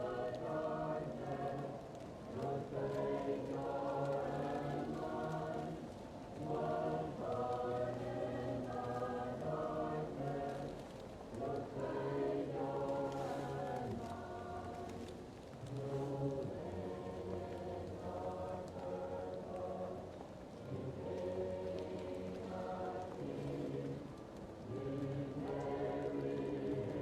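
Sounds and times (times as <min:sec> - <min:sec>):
muffled choir singing: 0:00.0 - 0:27.0
wood fire crackling: 0:00.0 - 0:27.0.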